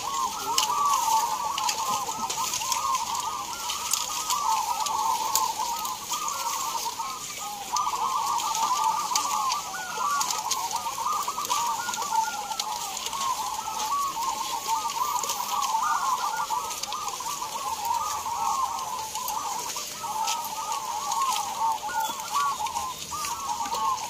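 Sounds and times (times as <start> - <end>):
doves cooing: 0.0 - 24.0.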